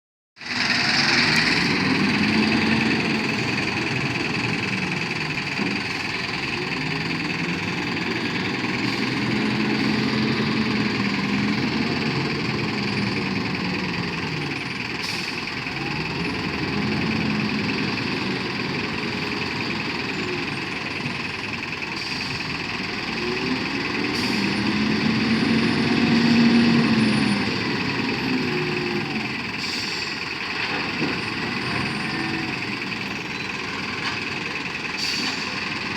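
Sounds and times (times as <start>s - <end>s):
truck engine running: 0.4s - 35.9s.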